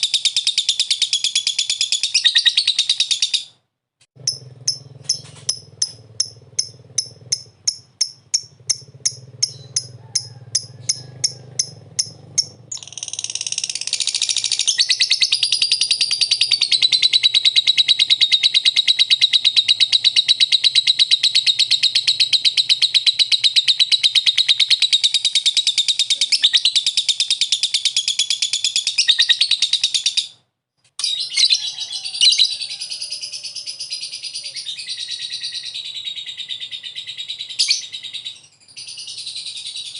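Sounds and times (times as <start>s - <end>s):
lovebird rapid chattering song: 0.0s - 3.5s, 4.2s - 30.4s, 31.0s - 39.9s
lovebird sharp chirps: 0.0s - 3.6s, 4.2s - 30.4s, 31.0s - 39.9s.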